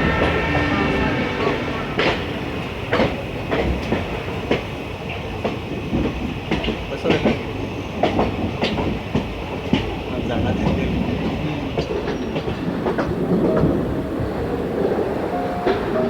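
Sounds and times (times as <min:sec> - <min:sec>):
train carriage rumble: 0:00.0 - 0:16.0.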